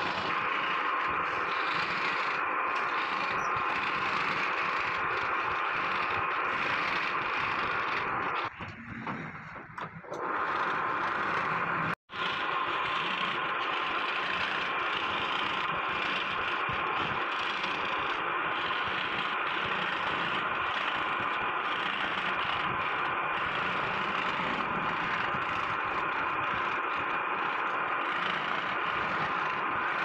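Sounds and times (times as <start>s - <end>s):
scroll saw cutting wood: 0.0s - 30.0s.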